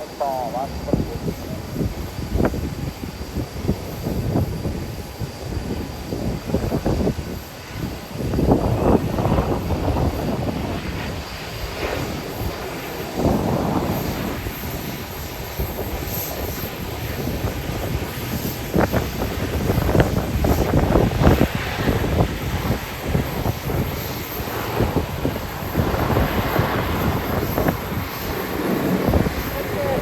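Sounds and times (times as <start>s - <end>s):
airliner engines running: 0.0s - 30.0s
wind buffeting microphone: 0.0s - 30.0s.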